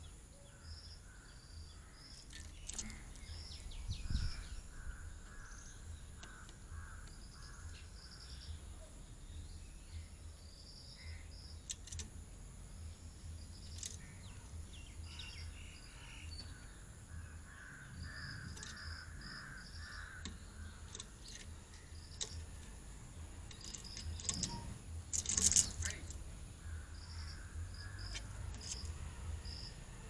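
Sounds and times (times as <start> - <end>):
birds calling harsh notes: 0.0 - 12.1, 12.7 - 30.0.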